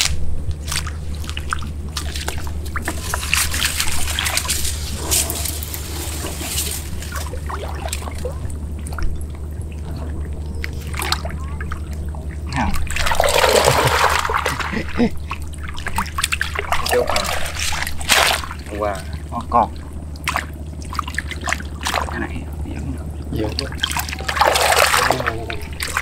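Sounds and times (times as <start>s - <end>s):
steady low hum: 0.0s - 26.0s
water splashing and trickling: 0.6s - 26.0s.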